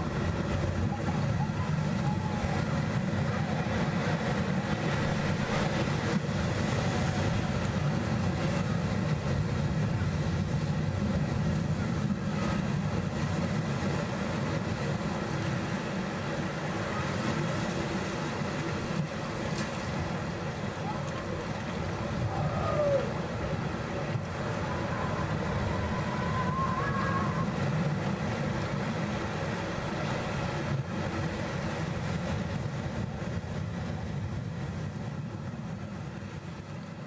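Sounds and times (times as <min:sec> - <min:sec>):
surf washing over rocks: 0:00.0 - 0:37.0.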